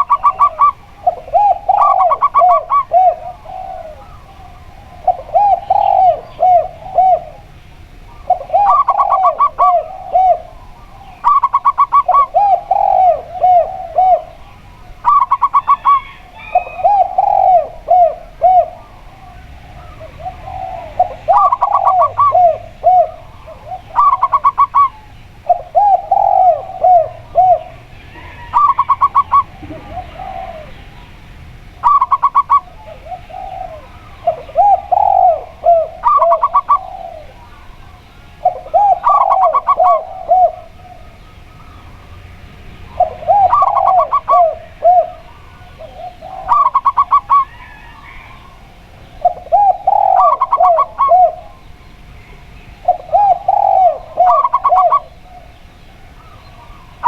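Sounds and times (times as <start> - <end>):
doves calling: 0.0 - 57.0.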